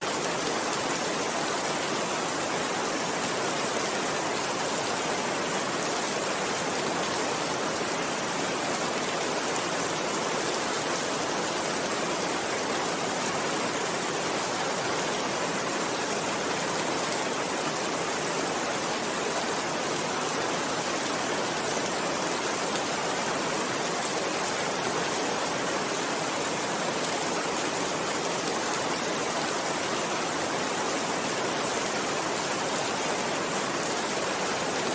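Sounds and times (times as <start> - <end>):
steady rainfall hiss: 0.0 - 34.9.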